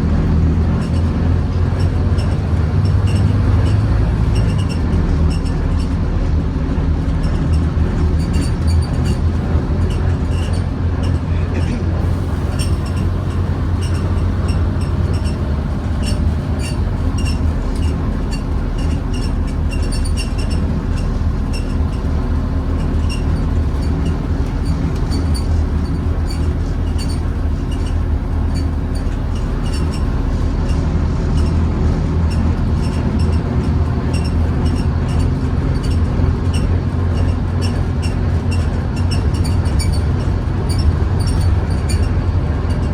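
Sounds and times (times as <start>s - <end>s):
bus engine drone: 0.0s - 42.9s
rattles from bus fittings: 0.1s - 42.9s.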